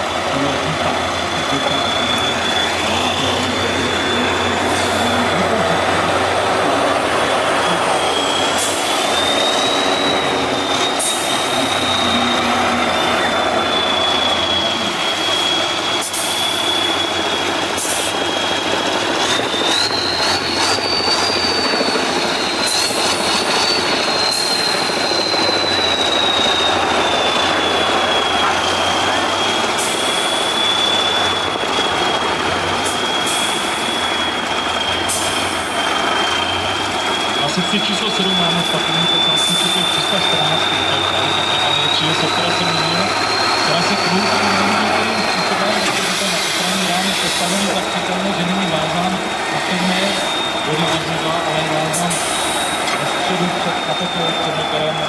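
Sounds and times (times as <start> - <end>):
high whine: 0.0 - 55.0
truck engine running hard: 0.0 - 55.0.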